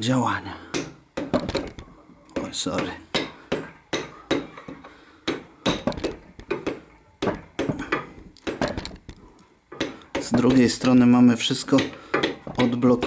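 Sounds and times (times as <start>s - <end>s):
hammer knocking on steel rod: 0.7s - 9.1s, 9.7s - 13.0s.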